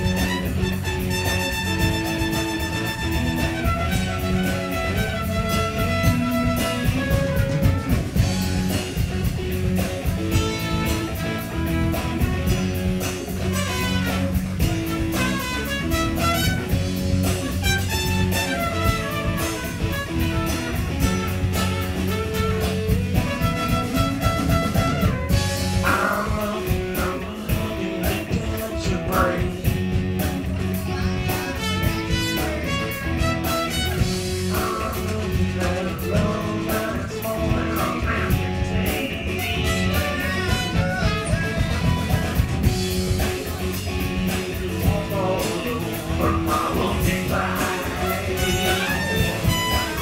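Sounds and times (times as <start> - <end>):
trumpet: 0.0 - 27.3, 30.8 - 43.2, 46.2 - 50.0
drum kit beat: 0.0 - 50.0
electric bass: 0.0 - 50.0
guitar: 0.0 - 50.0.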